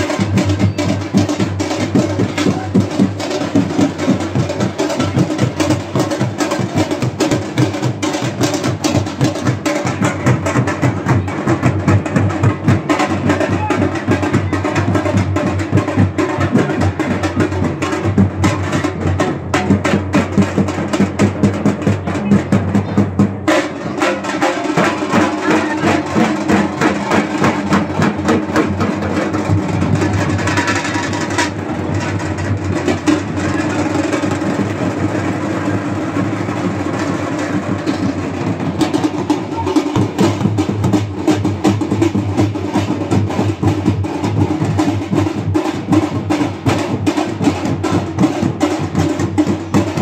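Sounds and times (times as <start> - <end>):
procession drums fast rhythm: 0.0 - 50.0.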